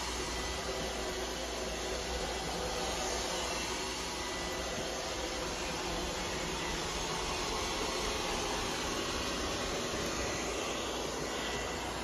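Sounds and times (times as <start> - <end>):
robot vacuum cleaner hissing: 0.0 - 12.0.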